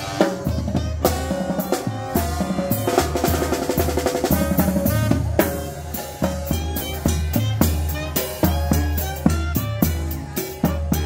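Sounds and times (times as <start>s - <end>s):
brass band playing: 0.0s - 11.0s
drums and cymbal beat: 0.0s - 11.0s.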